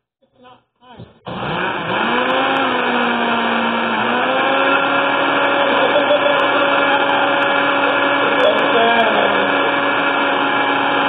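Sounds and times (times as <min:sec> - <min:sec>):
blender running: 0:01.3 - 0:11.0.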